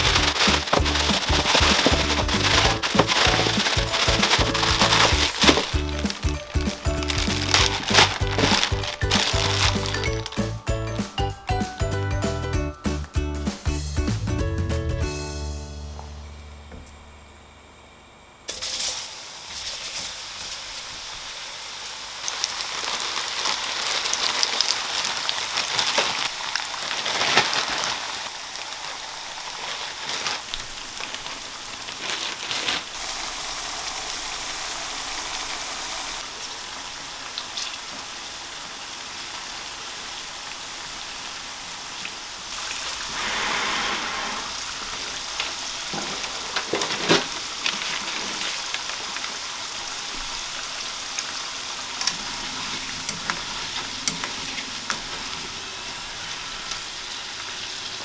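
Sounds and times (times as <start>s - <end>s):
food sizzling in deep fryer oil: 0.0s - 11.2s, 18.5s - 32.0s, 32.8s - 58.0s.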